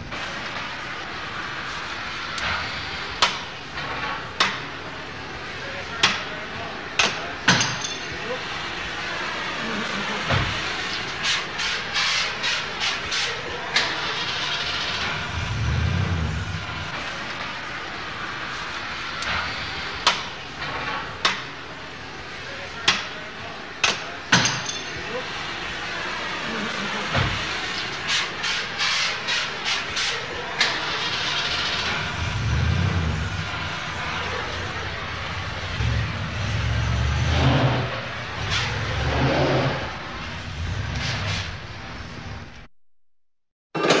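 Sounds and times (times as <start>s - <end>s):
workshop noise: 0.0s - 42.7s, 43.7s - 44.0s.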